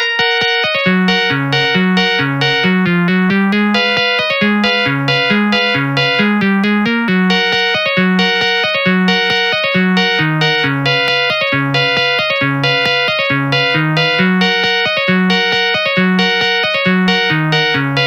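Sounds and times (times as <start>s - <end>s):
polyphonic ringtone melody: 0.0s - 18.0s.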